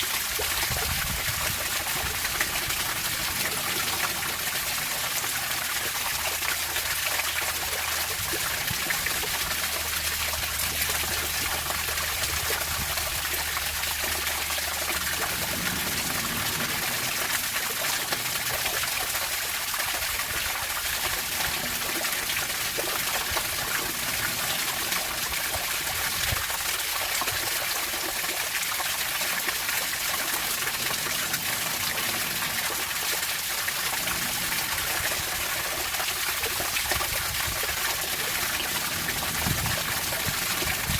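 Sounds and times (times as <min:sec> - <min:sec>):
running water gushing: 0:00.0 - 0:40.9.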